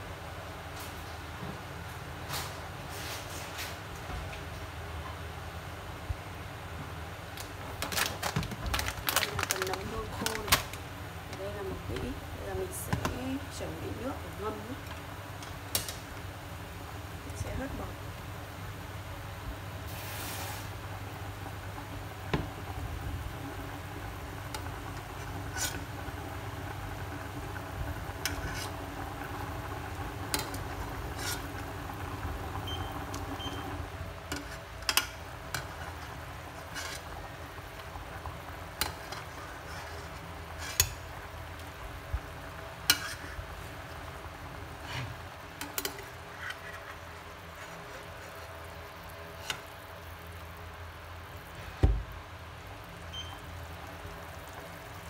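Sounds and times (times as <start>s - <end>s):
pot boiling and bubbling: 0.0s - 55.0s.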